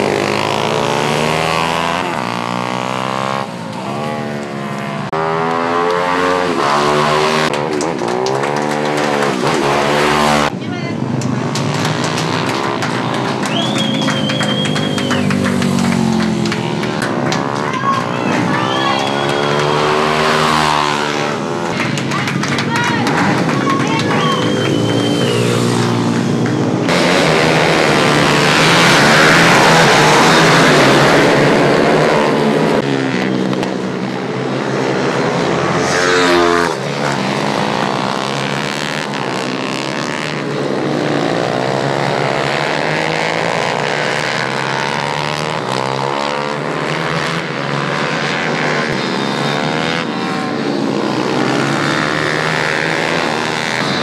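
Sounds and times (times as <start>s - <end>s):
racing motorcycle engines revving: 0.0s - 54.0s.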